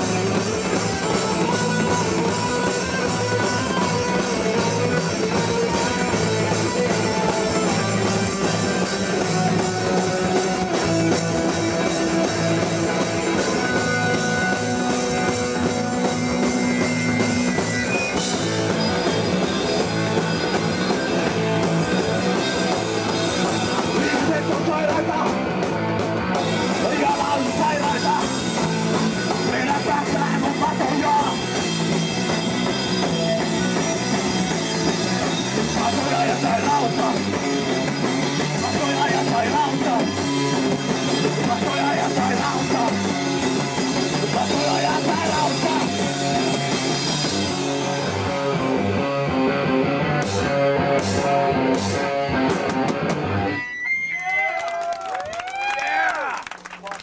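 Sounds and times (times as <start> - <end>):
fast drums with cymbals: 0.0 - 48.2
distorted electric guitar: 0.0 - 54.4.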